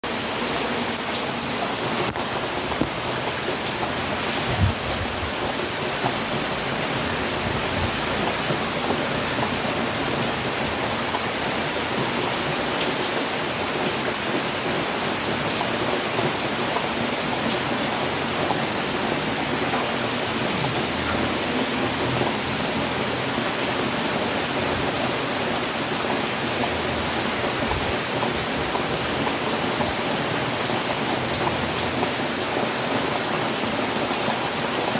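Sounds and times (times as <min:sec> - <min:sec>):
rain on a roof: 0:00.0 - 0:34.9.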